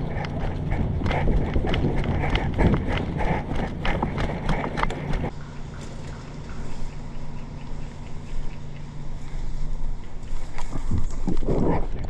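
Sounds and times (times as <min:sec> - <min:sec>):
running footsteps: 0:00.0 - 0:11.2.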